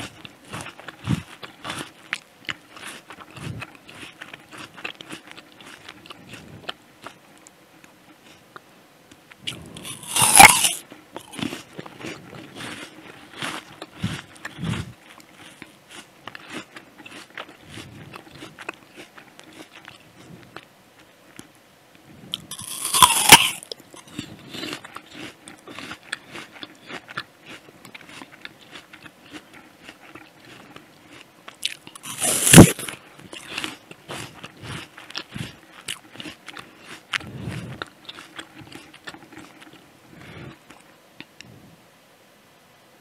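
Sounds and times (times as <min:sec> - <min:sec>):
apple crunching: 0:00.0 - 0:07.5, 0:09.2 - 0:21.5, 0:22.3 - 0:41.3
chewing clicks: 0:00.0 - 0:21.6, 0:22.4 - 0:41.4.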